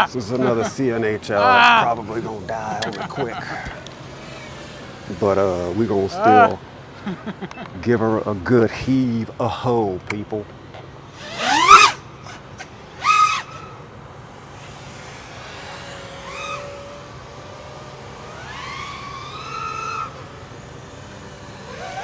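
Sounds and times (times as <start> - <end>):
quadcopter motors whining: 0.0 - 8.2, 10.7 - 22.0.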